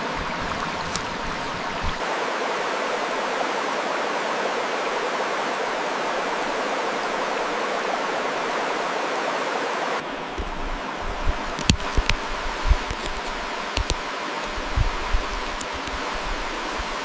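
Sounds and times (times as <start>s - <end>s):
rushing running water: 0.0s - 17.0s.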